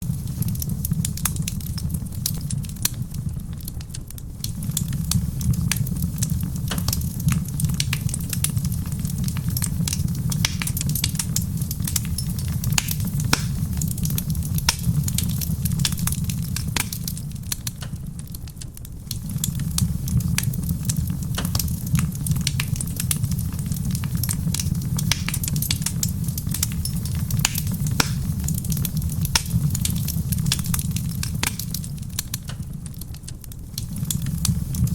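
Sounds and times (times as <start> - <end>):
fire low rumble: 0.0 - 34.9
wood fire crackling: 0.0 - 34.9.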